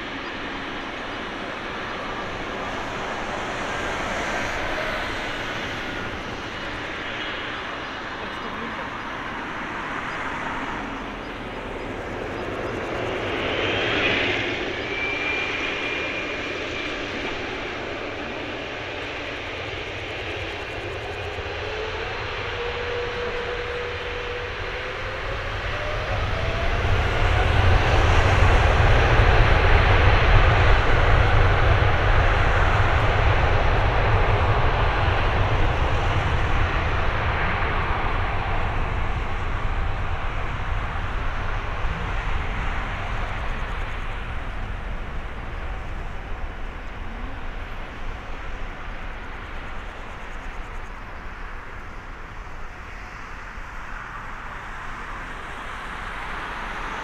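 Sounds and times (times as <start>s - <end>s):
jet engines spooling up: 0.0s - 51.8s.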